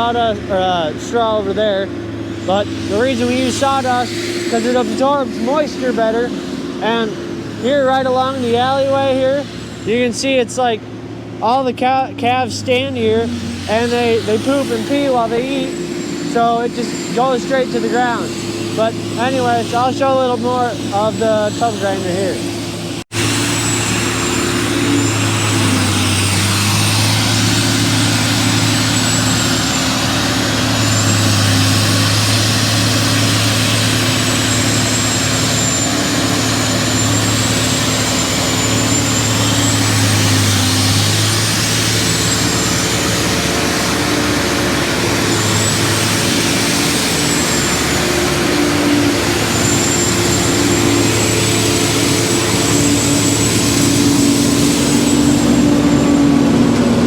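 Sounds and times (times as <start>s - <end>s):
thin high whine: 0.0s - 10.8s, 11.4s - 57.0s
dense grinding noise: 0.0s - 57.0s
diesel engine under load: 0.0s - 57.0s.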